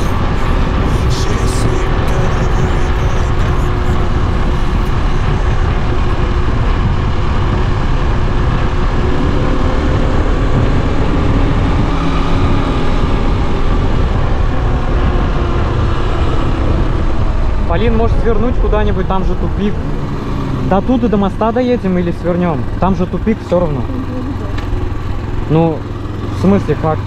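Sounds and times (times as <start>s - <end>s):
wind rushing over microphone: 0.0s - 23.4s
motorcycle engine running: 0.0s - 27.0s.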